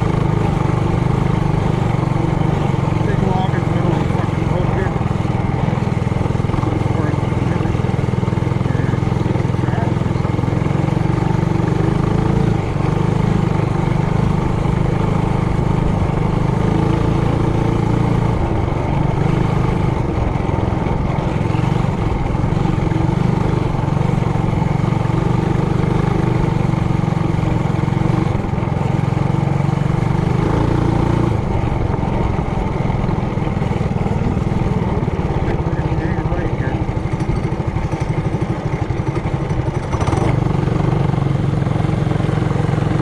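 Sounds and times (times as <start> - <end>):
mini bike engine running: 0.0 - 43.0.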